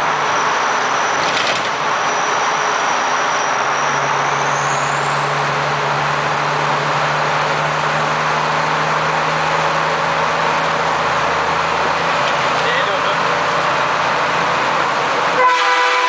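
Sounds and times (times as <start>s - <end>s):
road noise: 0.0s - 16.0s
truck engine hum: 0.0s - 16.0s.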